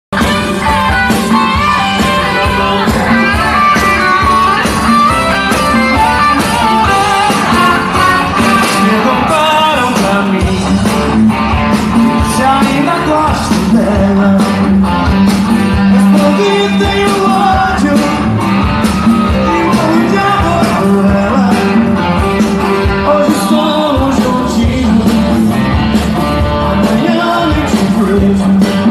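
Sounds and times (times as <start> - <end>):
live rock and roll band: 0.1 - 28.9
person singing: 0.2 - 28.9.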